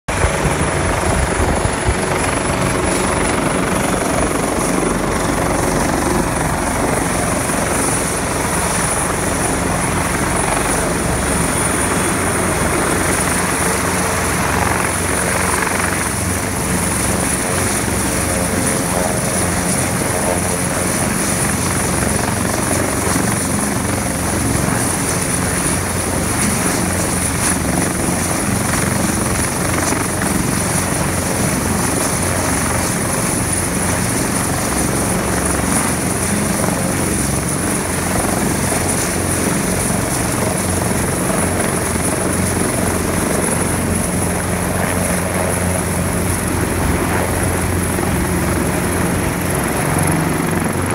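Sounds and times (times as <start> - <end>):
helicopter rotor and engines: 0.0 - 50.9
high turbine whine: 0.1 - 50.9.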